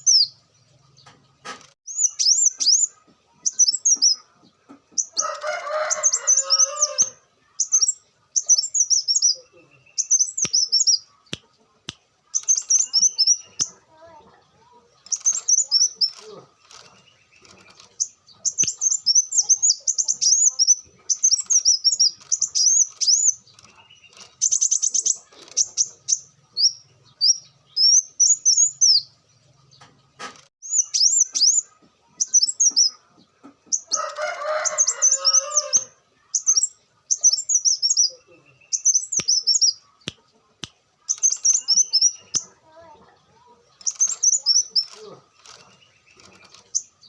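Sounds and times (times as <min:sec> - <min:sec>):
bird twittering and trilling: 0:00.0 - 0:47.0.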